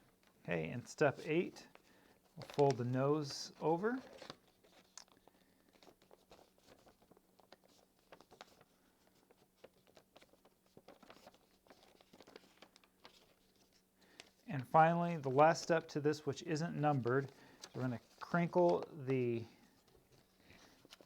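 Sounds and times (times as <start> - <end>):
paper being folded: 1.1 - 21.0.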